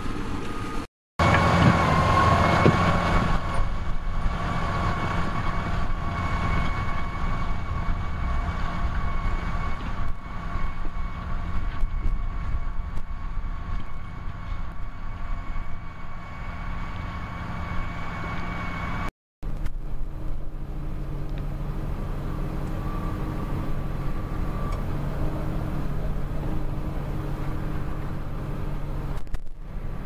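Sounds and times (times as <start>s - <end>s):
high whine: 0.0s - 30.0s
tractor engine steady revs: 0.0s - 30.0s
tractor engine under load: 0.0s - 30.0s.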